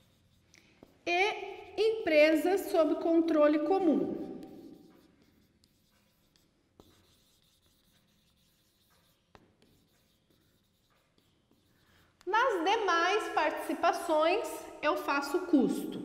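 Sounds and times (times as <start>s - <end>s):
marker rubbing on whiteboard: 0.0s - 14.0s.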